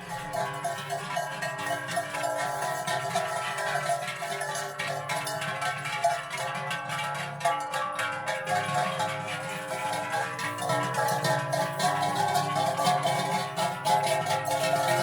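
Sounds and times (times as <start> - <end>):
cowbells clanging: 0.0 - 15.0.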